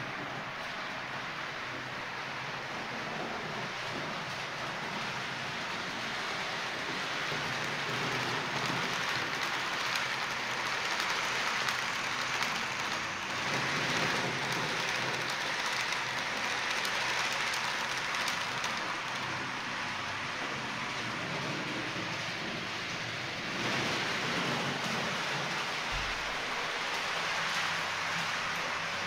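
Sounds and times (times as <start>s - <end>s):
model train wheels on rails: 0.0s - 29.0s.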